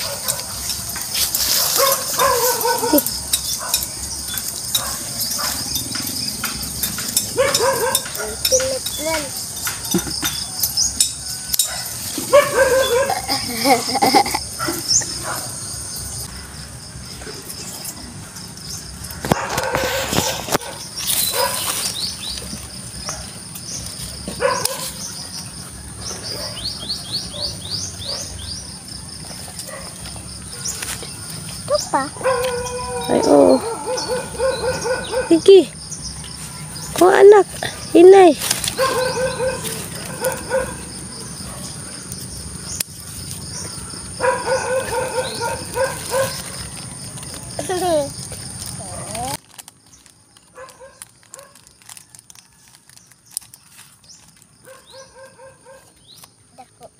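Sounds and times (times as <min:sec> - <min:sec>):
high insect whine: 0:00.0 - 0:52.6
leaves rustling: 0:00.0 - 0:56.9
bird chirping: 0:01.5 - 0:49.0, 0:52.9 - 0:56.9.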